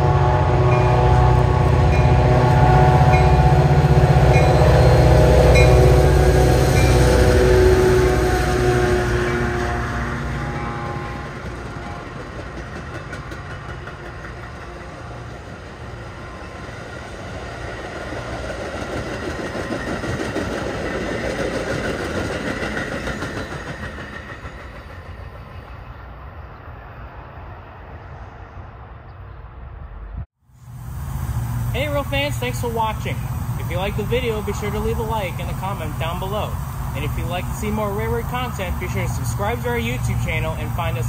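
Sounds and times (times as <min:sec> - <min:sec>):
train cars passing on rails: 0:00.0 - 0:41.0.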